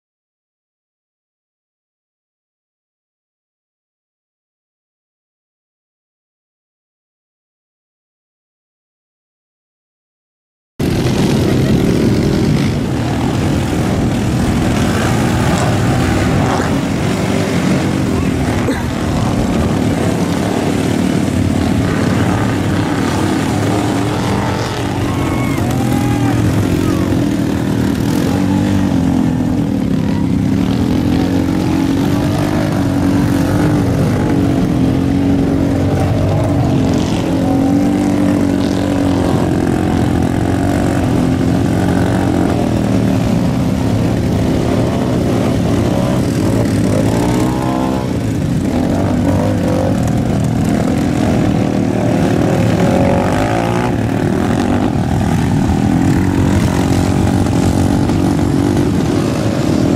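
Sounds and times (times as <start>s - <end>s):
atv engines revving: 10.8s - 59.9s.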